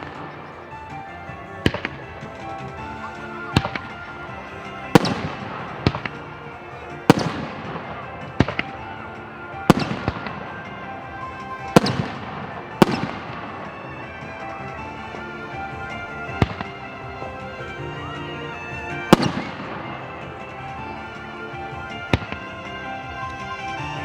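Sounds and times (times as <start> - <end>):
background music: 0.0 - 24.0
crackling hiss: 0.0 - 24.0
firework shells bursting: 0.0 - 24.0.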